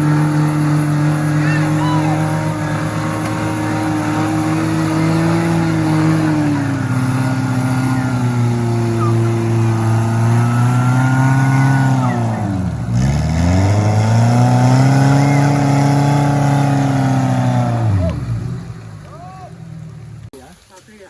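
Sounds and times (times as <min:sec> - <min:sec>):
engine running hard under load: 0:00.0 - 0:20.3.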